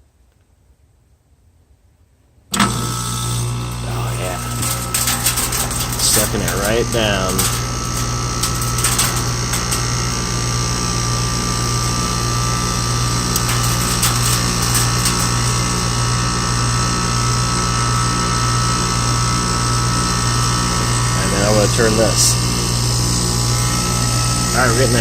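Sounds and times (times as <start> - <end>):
air conditioning compressor humming: 2.5 - 25.0.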